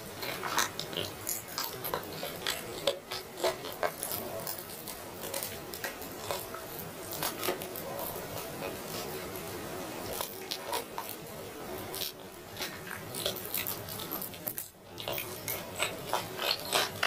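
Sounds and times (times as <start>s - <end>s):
chewing and tearing meat: 0.0s - 9.4s, 10.0s - 17.0s.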